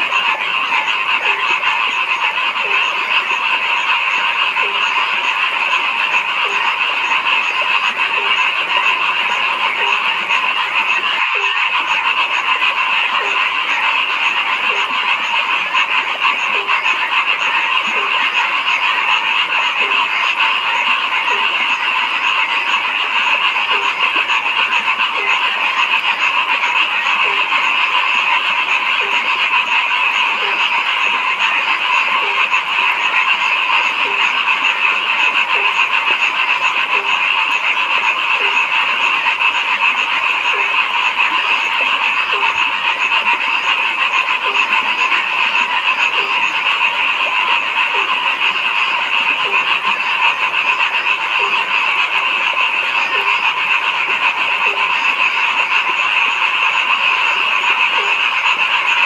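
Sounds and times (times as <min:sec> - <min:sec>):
frog chorus: 0:00.0 - 0:59.0
low frog croak: 0:00.0 - 0:59.0.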